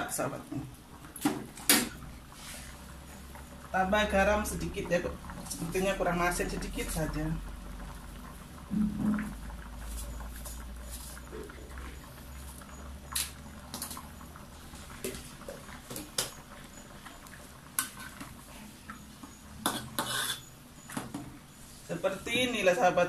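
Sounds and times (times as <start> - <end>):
thick sauce bubbling and popping: 0.8 - 21.2.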